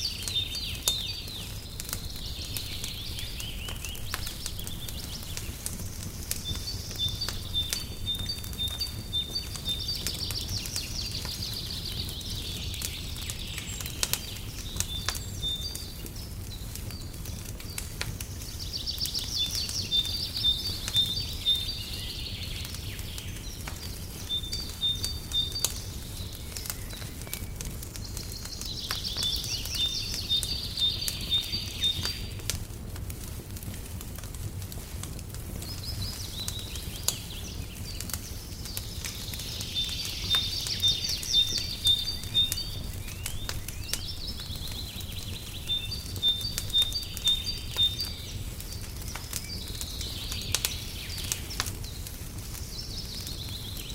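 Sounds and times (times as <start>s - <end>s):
songbird singing trills: 0.0s - 32.5s, 35.6s - 53.9s
fireplace crackling and popping: 0.0s - 53.9s.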